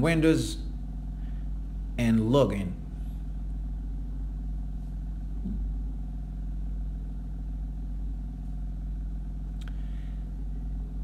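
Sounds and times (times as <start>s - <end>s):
steady low buzzing hum: 0.0s - 11.0s.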